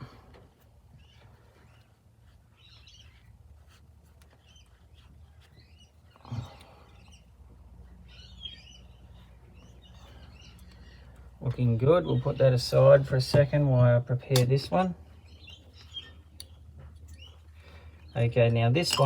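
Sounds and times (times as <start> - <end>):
faint birds chirping: 0.0 - 19.0
low steady hum: 0.0 - 19.0.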